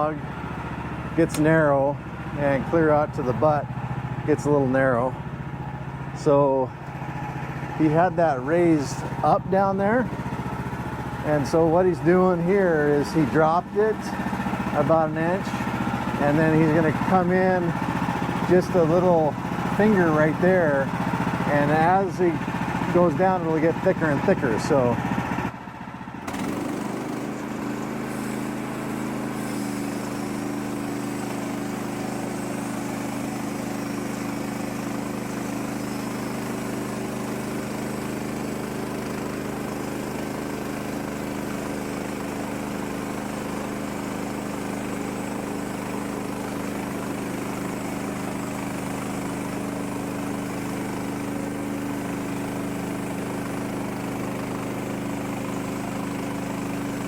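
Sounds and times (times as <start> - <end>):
band saw cutting log: 0.0 - 25.5, 26.2 - 57.0
sawmill engine running: 0.0 - 57.0.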